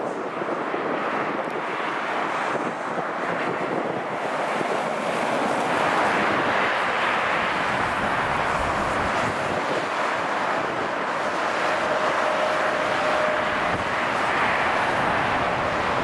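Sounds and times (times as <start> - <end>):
highway traffic passing: 0.0 - 16.0
wind on microphone: 0.0 - 16.0.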